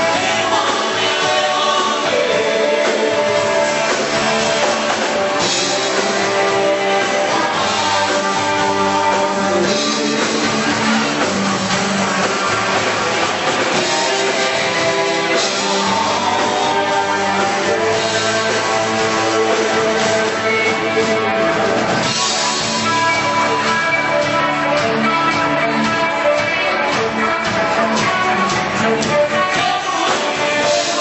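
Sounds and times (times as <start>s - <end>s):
country rock band music: 0.0s - 31.0s
drum kit beat: 0.0s - 31.0s
electric guitar: 0.0s - 31.0s.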